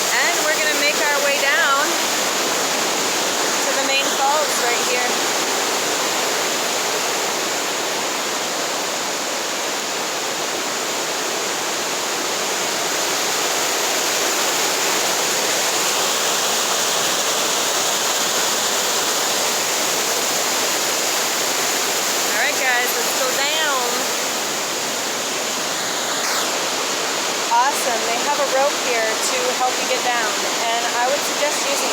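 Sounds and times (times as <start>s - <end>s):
fast-running river: 0.0s - 31.9s
waterfall rushing: 0.0s - 31.9s.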